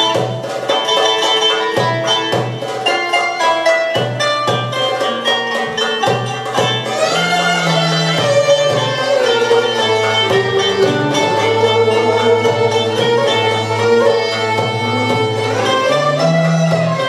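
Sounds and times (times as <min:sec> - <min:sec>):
plucked string notes: 0:00.0 - 0:17.0
violins: 0:00.0 - 0:17.0.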